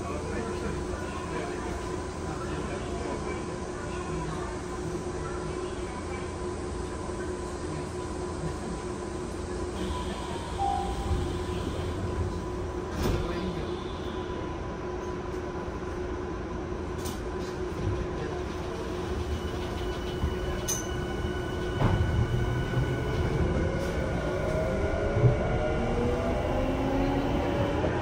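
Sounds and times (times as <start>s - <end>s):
train rail and wheel noise: 0.0s - 28.0s.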